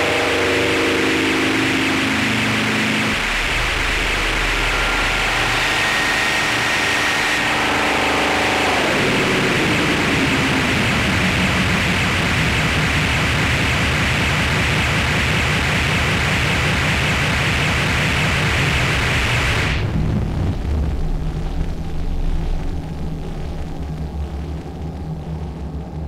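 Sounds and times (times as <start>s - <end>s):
fast low throbbing pulse: 0.0s - 26.0s
harsh electronic noise drone: 0.0s - 26.0s.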